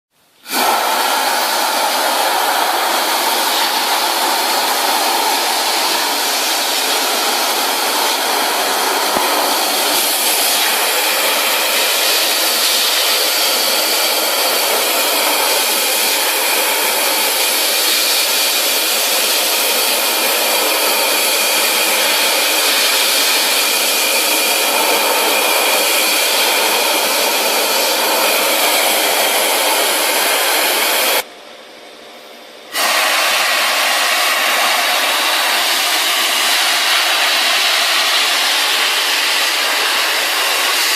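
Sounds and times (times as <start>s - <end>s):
industrial vacuum rushing hiss: 0.2s - 31.3s, 32.7s - 40.9s.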